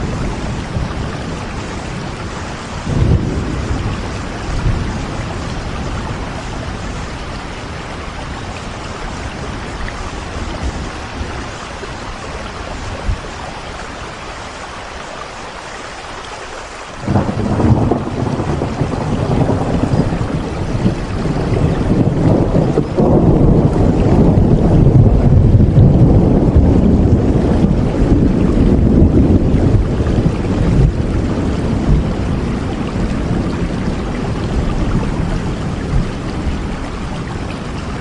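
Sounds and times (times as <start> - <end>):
thunder rumbling: 0.0 - 14.2, 17.0 - 38.0
steady rain: 0.0 - 38.0.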